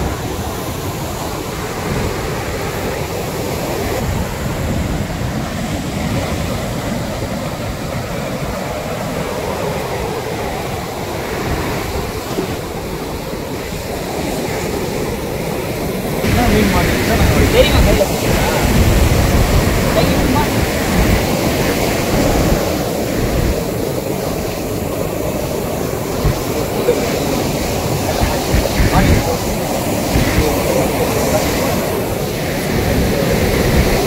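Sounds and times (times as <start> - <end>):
surf breaking on beach: 0.0 - 34.0
wind buffeting microphone: 0.0 - 34.0.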